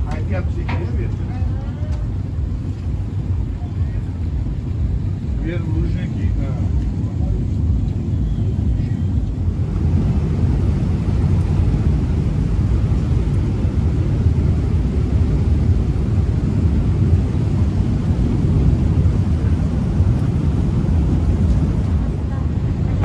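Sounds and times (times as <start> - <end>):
boat engine rumble: 0.0 - 23.0.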